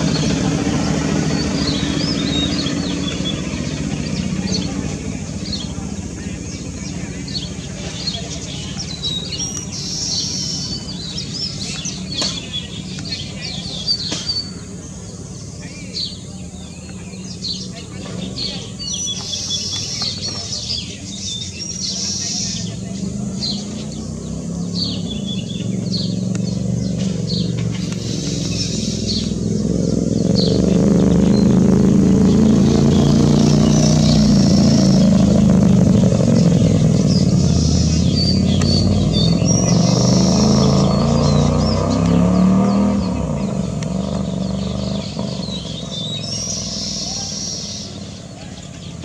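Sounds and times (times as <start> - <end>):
small birds chirping: 0.0 - 49.0
vehicle engine passing by: 0.0 - 49.0.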